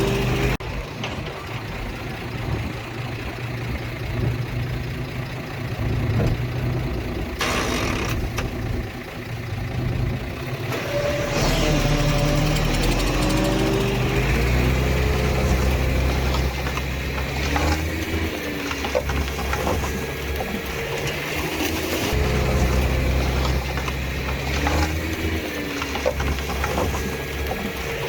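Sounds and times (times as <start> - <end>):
heavy diesel engine revving: 0.0 - 28.0.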